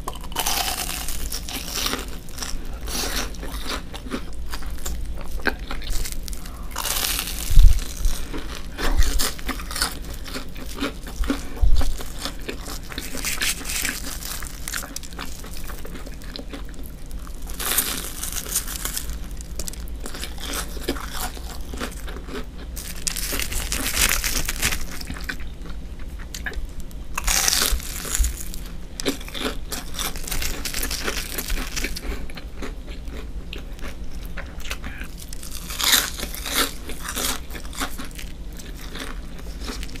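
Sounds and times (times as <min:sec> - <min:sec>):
chewing: 0:00.0 - 0:26.6, 0:27.2 - 0:40.0
crunching fried food: 0:00.0 - 0:40.0.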